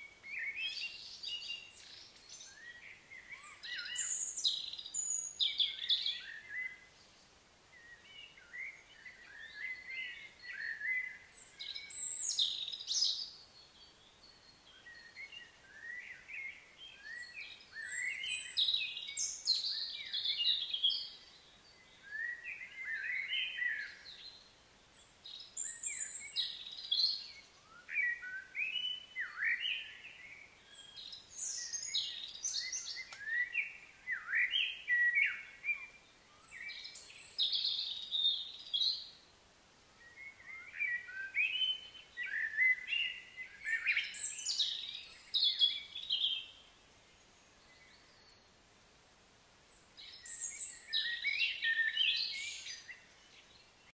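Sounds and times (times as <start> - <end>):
songbird chirping and warbling: 0.0 - 48.8, 49.6 - 54.0.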